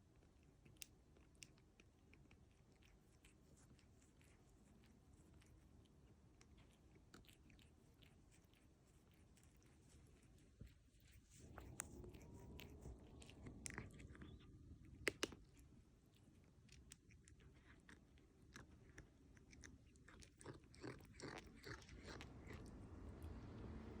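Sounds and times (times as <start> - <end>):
cat chewing its claws: 0.1 - 24.0.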